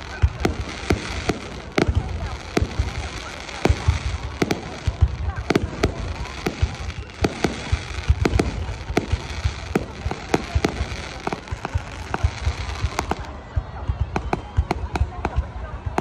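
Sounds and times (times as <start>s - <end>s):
fireworks crackle: 0.0s - 13.4s, 14.1s - 16.0s
fireworks bangs and pops: 0.0s - 16.0s.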